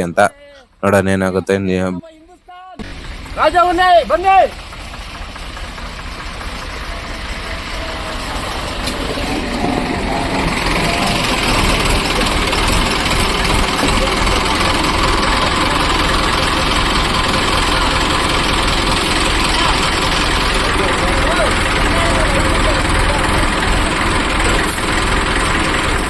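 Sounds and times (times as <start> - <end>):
tractor diesel engine running hard: 2.8 - 26.0.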